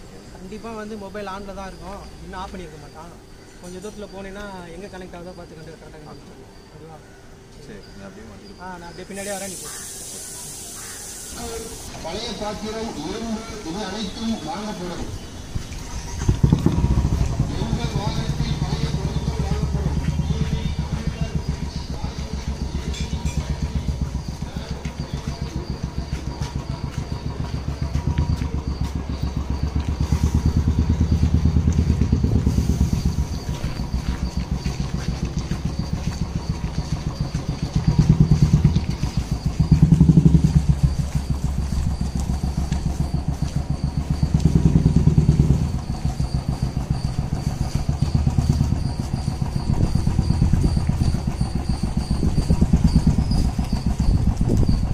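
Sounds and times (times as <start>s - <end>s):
motorcycle engine running: 10.8s - 54.9s.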